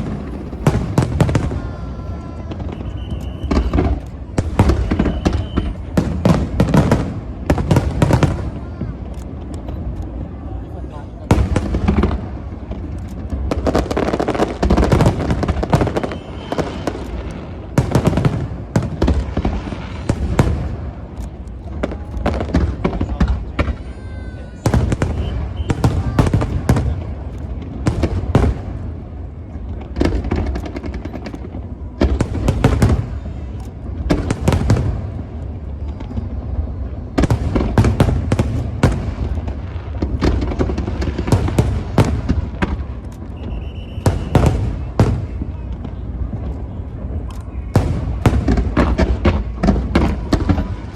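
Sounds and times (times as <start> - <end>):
continuous low rumble: 0.0 - 50.9
fireworks booms and crackles: 0.0 - 50.9.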